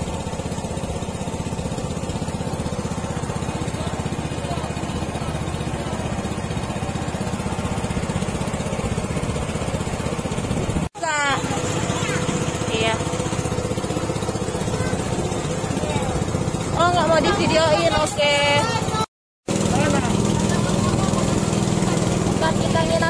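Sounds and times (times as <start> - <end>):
boat motor running: 0.0 - 23.0.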